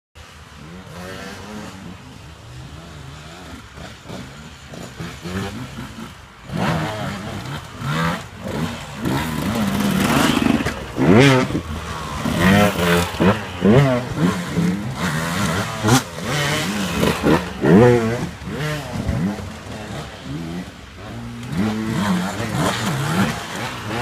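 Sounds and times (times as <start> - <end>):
dirt bike engines revving: 0.2 - 24.0.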